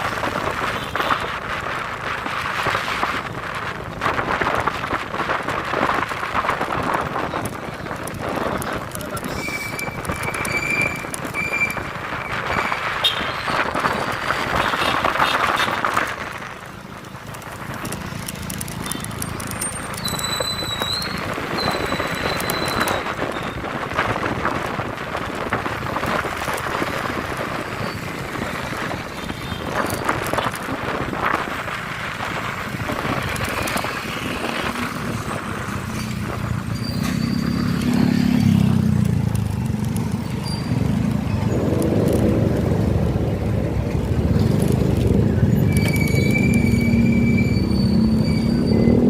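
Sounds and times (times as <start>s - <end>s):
road and wind noise: 0.0s - 49.0s.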